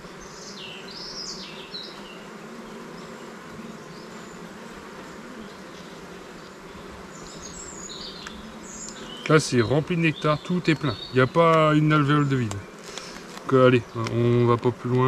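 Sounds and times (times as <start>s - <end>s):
honeybee colony humming: 0.0s - 15.0s.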